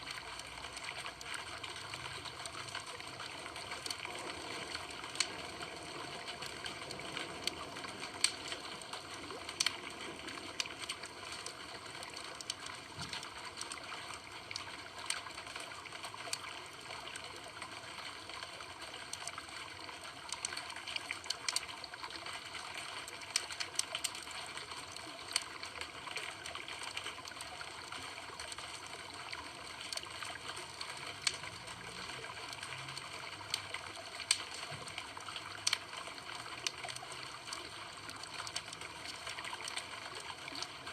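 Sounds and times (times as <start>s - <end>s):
wood crackling and popping: 0.0s - 40.9s.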